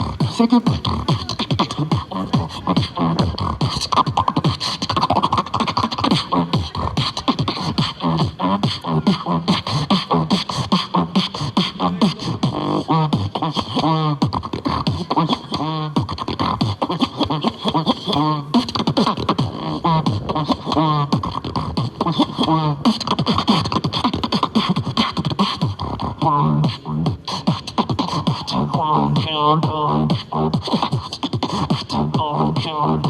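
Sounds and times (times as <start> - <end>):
person beatboxing: 0.0 - 33.0.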